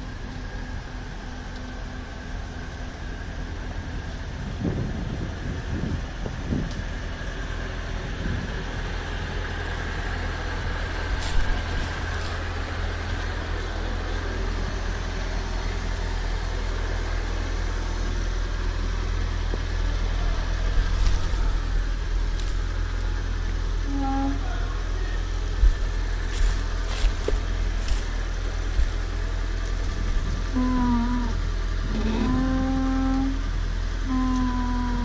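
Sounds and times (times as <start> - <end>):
vehicle engine humming: 0.0 - 35.0.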